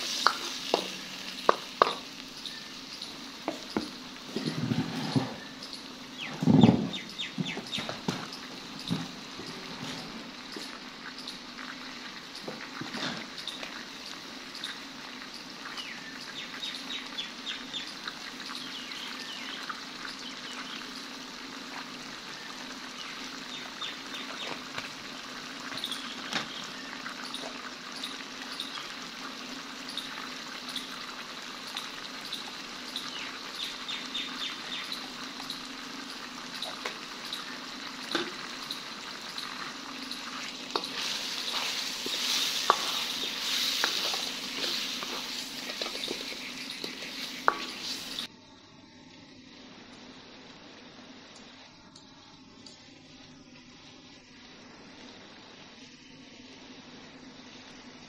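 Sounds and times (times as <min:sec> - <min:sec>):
chicken sizzling in a wok: 0:00.0 - 0:48.3.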